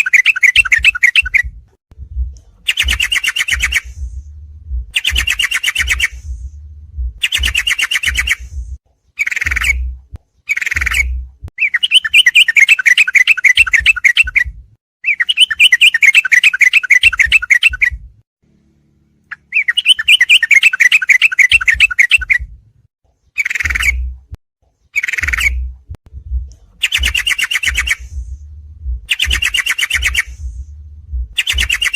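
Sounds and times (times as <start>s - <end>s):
bulbul song: 0.0s - 18.0s, 19.3s - 22.5s, 23.1s - 31.9s.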